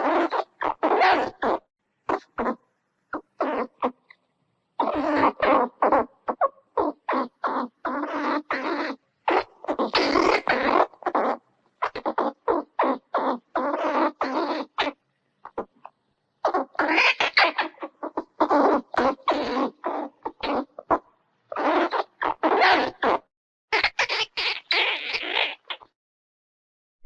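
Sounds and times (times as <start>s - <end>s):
squirrel chattering: 0.0s - 2.6s, 3.2s - 4.2s, 4.8s - 23.2s, 23.8s - 25.9s.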